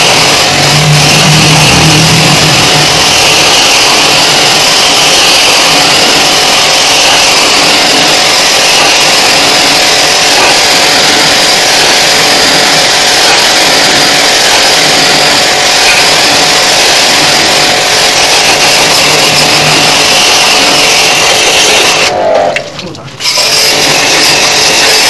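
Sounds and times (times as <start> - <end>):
pressure washer spraying water: 0.0 - 22.2, 23.2 - 25.0.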